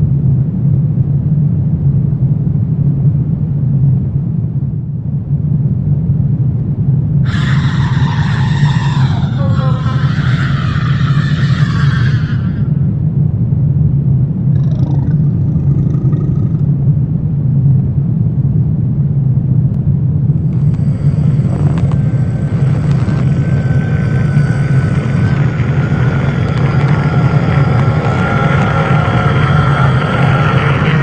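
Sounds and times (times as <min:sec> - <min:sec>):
low rumbling drone: 0:00.0 - 0:31.0.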